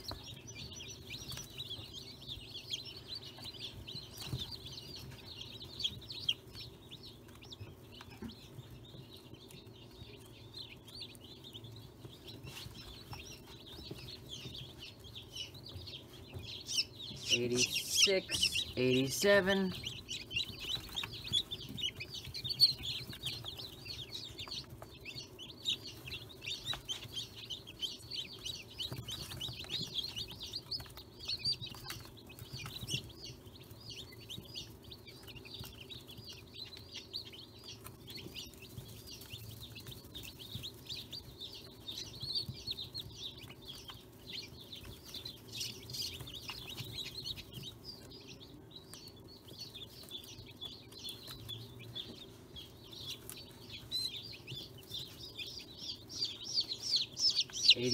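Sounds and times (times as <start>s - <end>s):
chicks peeping: 0.0s - 57.9s.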